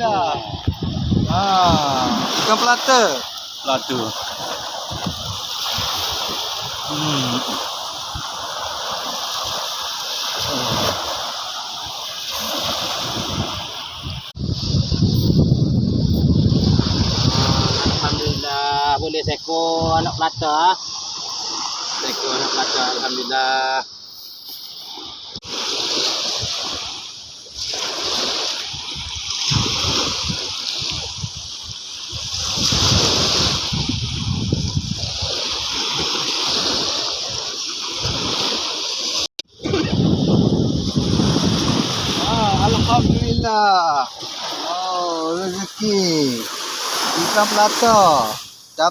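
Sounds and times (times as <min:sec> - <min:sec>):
surf splashing in shallows: 0:00.0 - 0:48.9.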